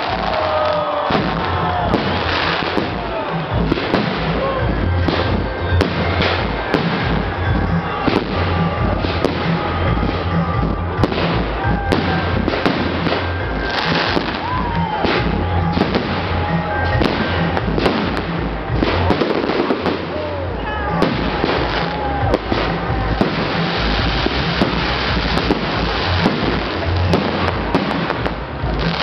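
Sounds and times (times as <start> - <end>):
fireworks bursting: 0.0 - 29.0
music playing: 0.0 - 29.0.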